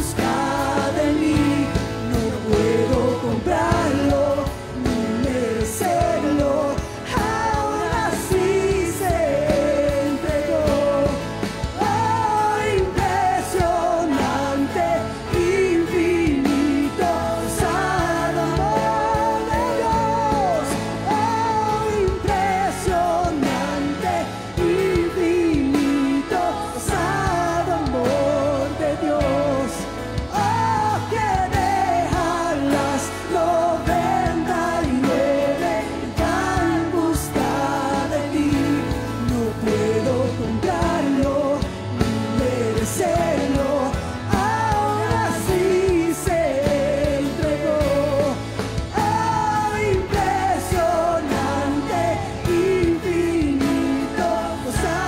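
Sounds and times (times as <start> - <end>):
band playing: 0.0 - 55.0
drums: 0.0 - 55.0
woman singing into microphone: 0.0 - 55.0.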